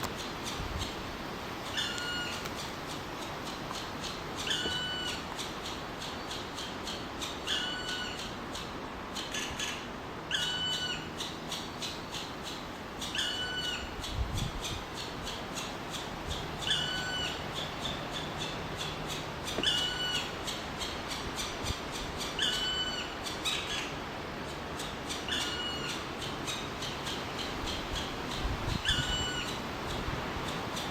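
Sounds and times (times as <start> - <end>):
woodpecker nestlings begging calls: 1.6 - 30.9.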